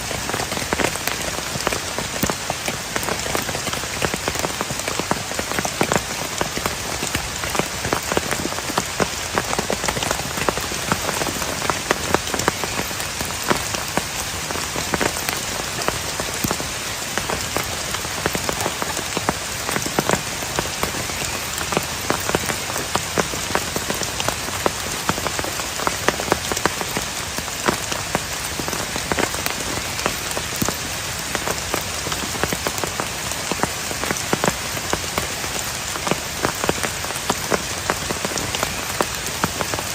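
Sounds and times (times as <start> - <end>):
heavy rain falling: 0.0 - 39.9
sharp raindrops striking close: 0.0 - 39.9.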